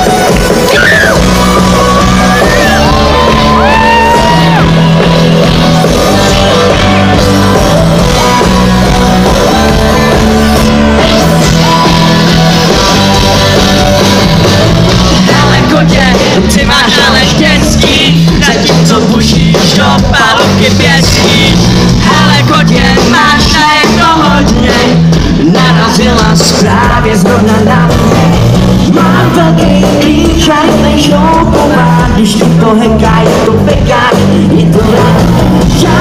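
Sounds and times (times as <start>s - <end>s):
bass guitar: 0.0s - 36.0s
drums: 0.0s - 36.0s
electric guitar: 0.0s - 36.0s
person singing: 0.0s - 36.0s.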